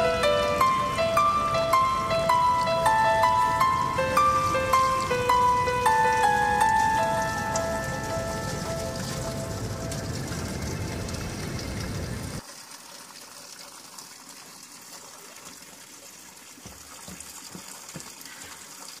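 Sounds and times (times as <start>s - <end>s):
spring water rushing: 0.0s - 19.0s.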